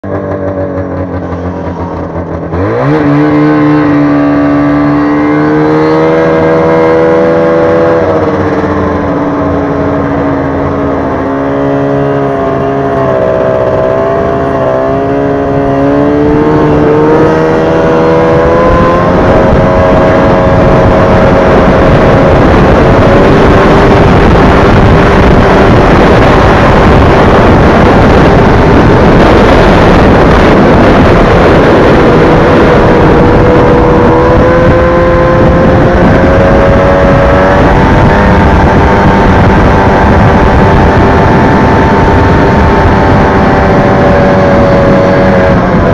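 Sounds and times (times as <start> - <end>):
rushing noise at speed: 0.0 - 45.9
snowmobile engine revving: 0.0 - 45.9.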